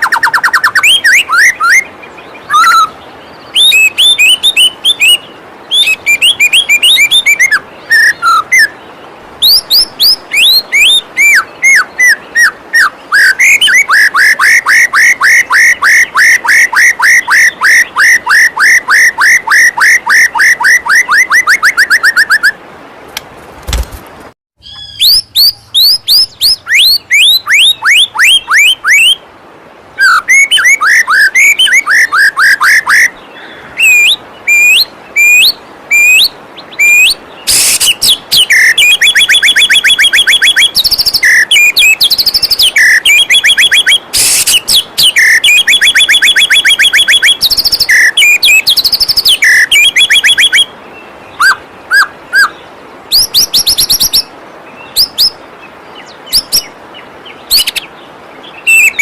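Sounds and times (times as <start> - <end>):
bird song whistles and trills: 0.0 - 22.6, 24.6 - 29.2, 30.0 - 59.0.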